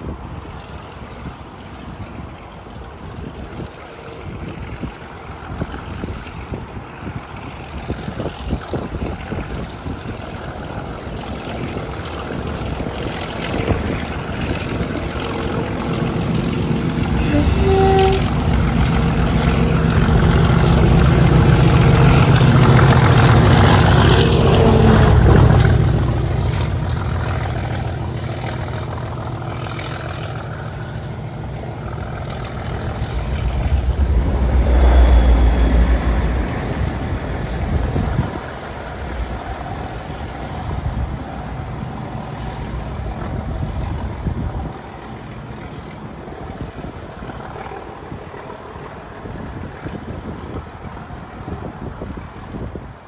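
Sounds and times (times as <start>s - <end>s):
diesel locomotive engine passing: 0.0s - 53.0s.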